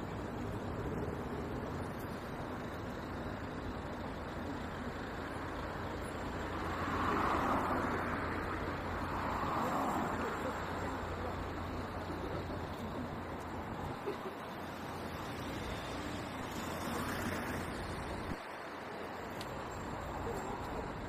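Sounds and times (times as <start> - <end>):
low rumble of traffic: 0.0 - 21.0
vehicles passing: 0.0 - 21.0.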